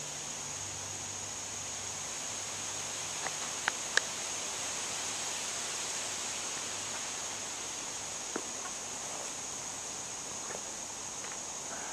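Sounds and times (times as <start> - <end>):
outdoor hiss: 0.0 - 11.9.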